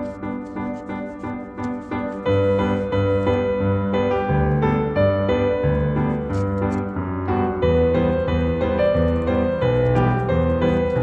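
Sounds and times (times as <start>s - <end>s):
instrumental piano music: 0.0s - 11.0s.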